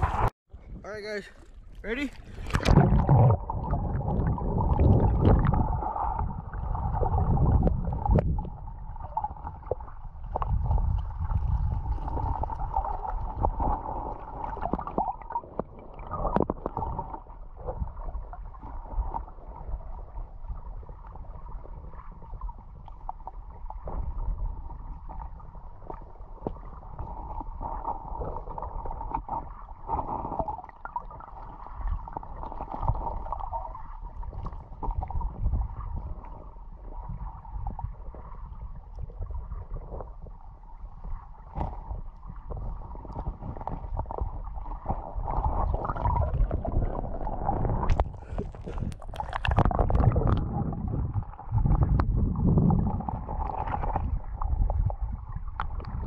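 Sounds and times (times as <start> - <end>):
underwater stream rumble and gurgle: 0.0 - 0.8, 1.4 - 56.0.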